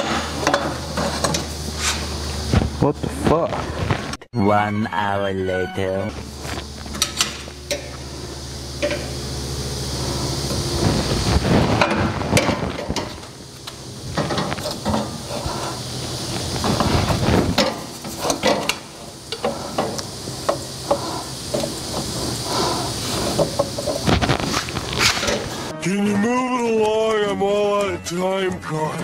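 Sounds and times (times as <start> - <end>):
steady low hum: 0.0 - 27.8.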